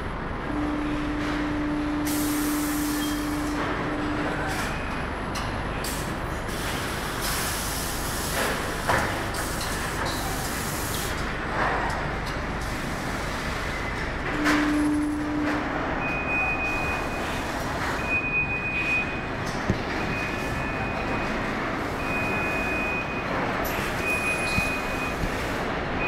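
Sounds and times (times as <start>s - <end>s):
machinery noise: 0.3s - 26.0s.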